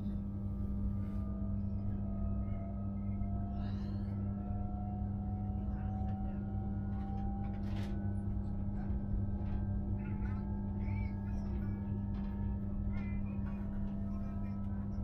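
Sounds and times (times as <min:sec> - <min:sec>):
electric train hum and rumble: 0:00.0 - 0:15.0.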